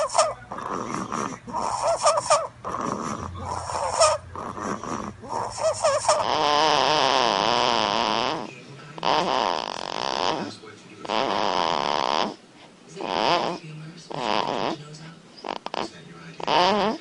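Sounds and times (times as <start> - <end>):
baby snoring: 0.0 - 12.4, 13.0 - 17.0.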